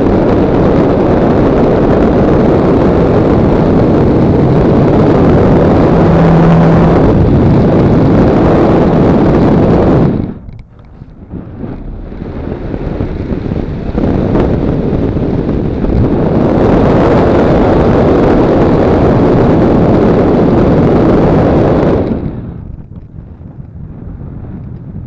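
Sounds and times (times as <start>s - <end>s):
motor glider propeller running: 0.0s - 25.0s
wind rushing over microphone: 0.0s - 25.0s.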